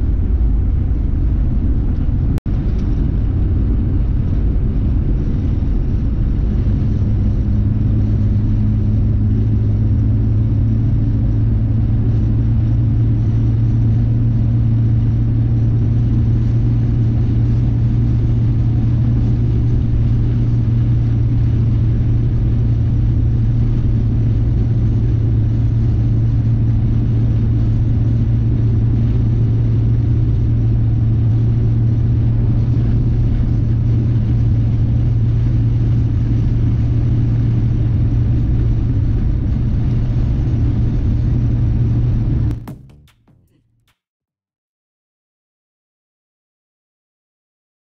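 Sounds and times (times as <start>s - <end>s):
car engine drone: 0.0s - 42.8s.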